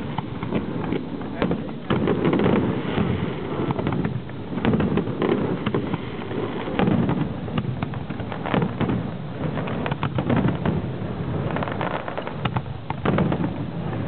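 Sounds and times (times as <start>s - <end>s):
fireworks bangs and crackles: 0.0s - 14.0s
low fireworks booms: 0.0s - 14.0s.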